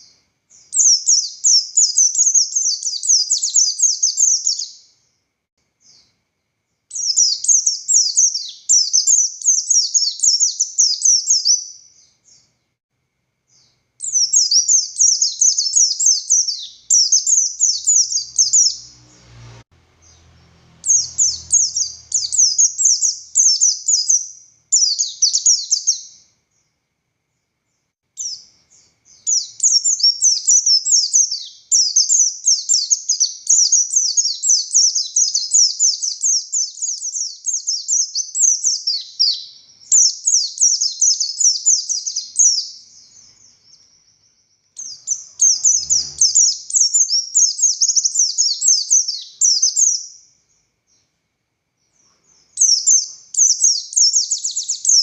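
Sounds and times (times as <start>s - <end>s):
bird chattering song: 0.0s - 5.0s, 6.9s - 12.5s, 13.5s - 19.2s, 20.0s - 26.2s, 28.2s - 51.0s, 51.9s - 55.0s.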